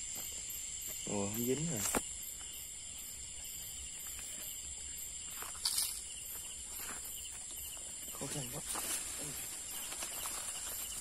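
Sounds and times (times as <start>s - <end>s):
chorus of crickets: 0.0s - 11.0s.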